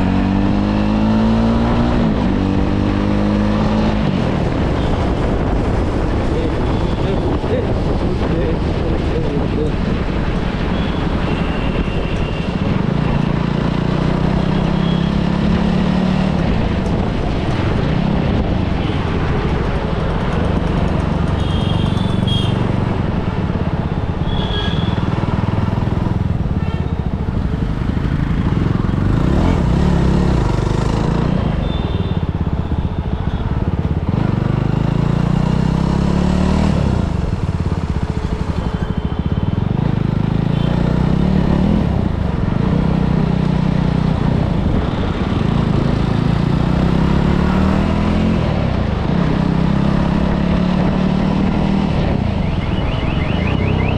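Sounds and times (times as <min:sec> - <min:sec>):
motorcycle engine revving: 0:00.0 - 0:04.9, 0:12.7 - 0:19.5, 0:20.1 - 0:52.4
street traffic: 0:00.0 - 0:53.9.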